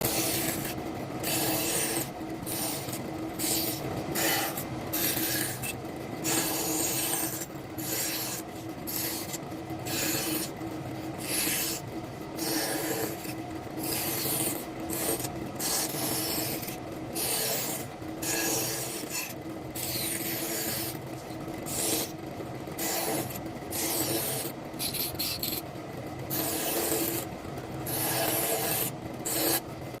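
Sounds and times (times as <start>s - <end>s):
wood being rasped: 0.0s - 21.0s, 21.7s - 25.6s, 26.3s - 29.7s.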